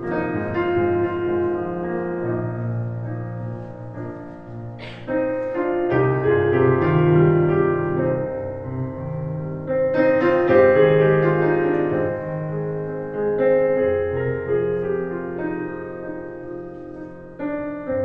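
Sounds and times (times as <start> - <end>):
electric piano playing slow chords: 0.0 - 18.0.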